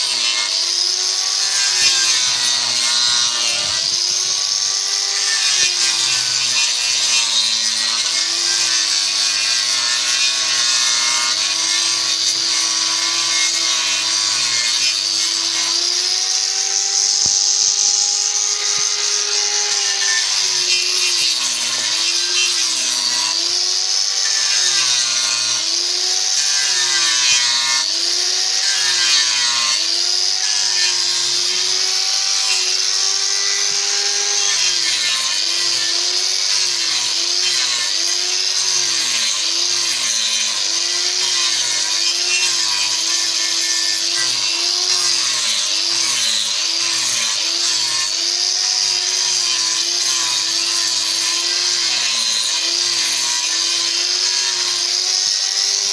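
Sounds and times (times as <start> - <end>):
power tool cutting wood: 0.0 - 55.9.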